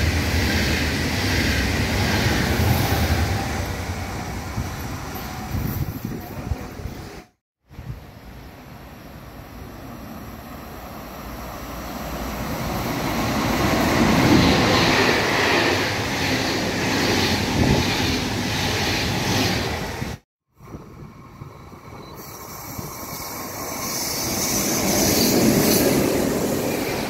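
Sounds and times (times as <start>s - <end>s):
train passing with rumbling: 0.0s - 27.0s.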